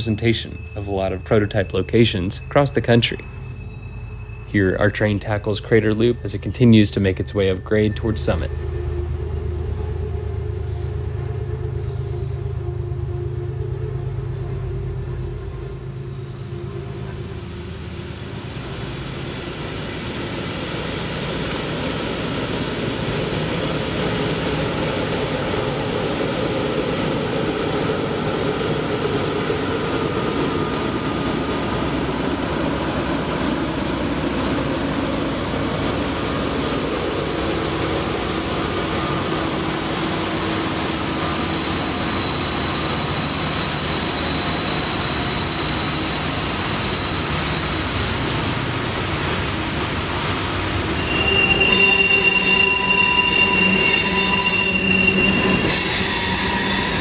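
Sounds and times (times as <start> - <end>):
model locomotive engine drone: 0.0 - 57.0.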